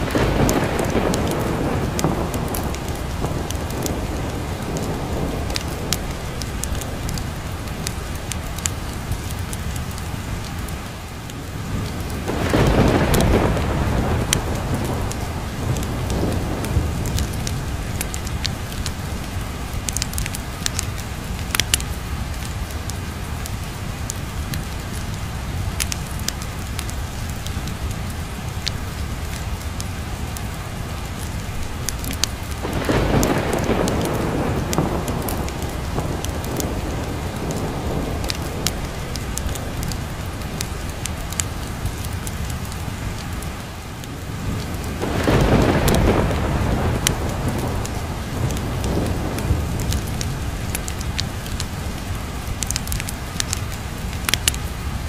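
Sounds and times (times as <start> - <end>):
fireplace crackles: 0.0 - 23.1, 25.8 - 54.6
thunder rumble: 0.0 - 54.6
heavy rain: 0.0 - 55.0.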